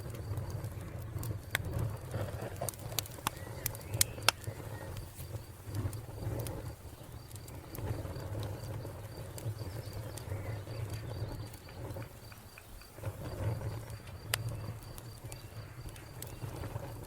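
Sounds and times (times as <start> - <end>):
cricket chirping: 0.0 - 17.0
wood fire crackling: 0.0 - 17.0.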